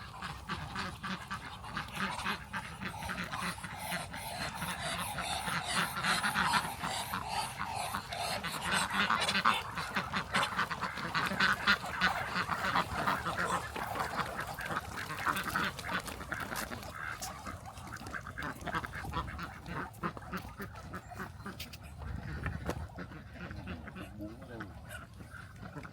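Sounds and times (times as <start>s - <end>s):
ducks chattering: 0.0s - 25.9s.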